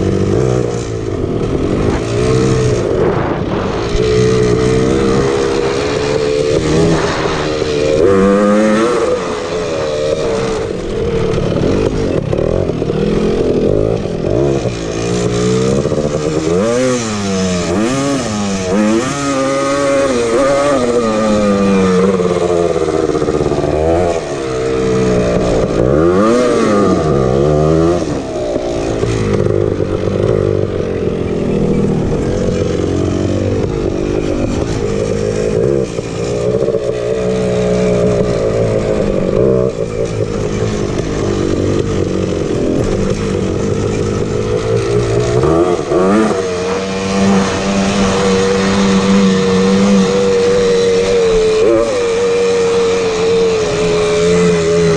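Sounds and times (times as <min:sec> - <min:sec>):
atv two-stroke engine revving: 0:00.0 - 0:54.9.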